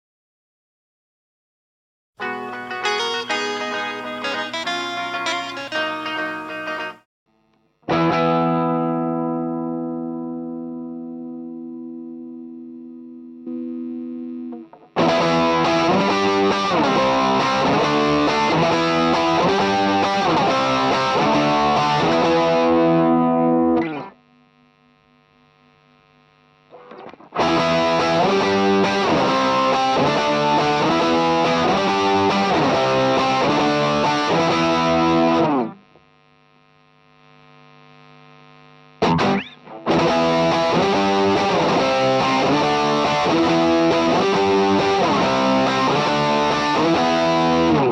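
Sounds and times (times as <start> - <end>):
distorted electric guitar riff: 2.2 - 36.2, 37.0 - 47.9.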